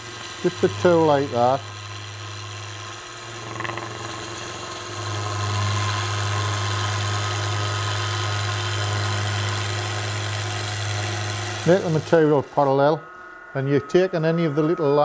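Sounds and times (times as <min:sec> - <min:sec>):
gouge shaving spinning wood: 0:00.0 - 0:12.8
lathe humming: 0:00.0 - 0:15.0.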